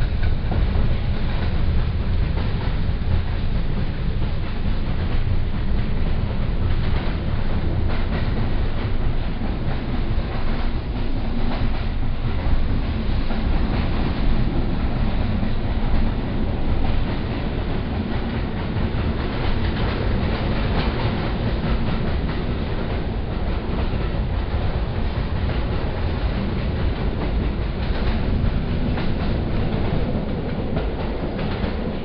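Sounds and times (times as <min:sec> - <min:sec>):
clicks over the rails: 0:00.0 - 0:32.0
train wheels rumbling on track: 0:00.0 - 0:32.0.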